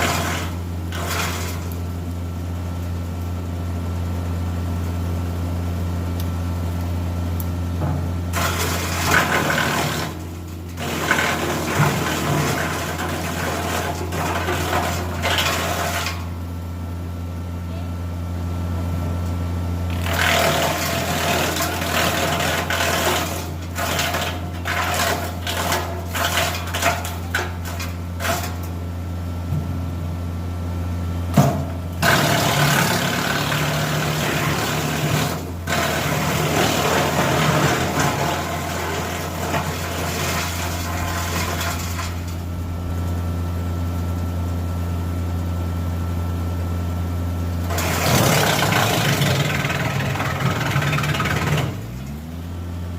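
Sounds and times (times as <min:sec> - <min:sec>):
wood chipper engine hum: 0:00.0 - 0:52.9.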